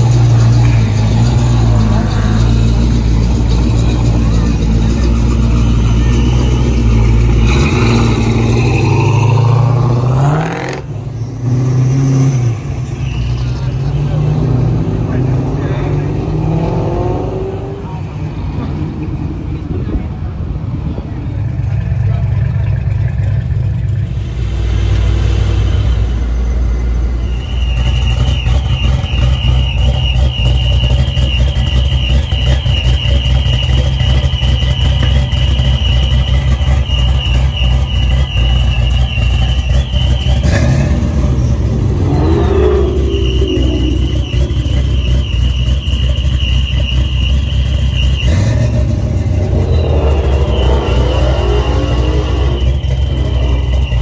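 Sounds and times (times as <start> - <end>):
car engine idling loudly: 0.0 - 8.6, 15.1 - 16.1, 17.8 - 54.0
engine throttle blips: 0.0 - 54.0.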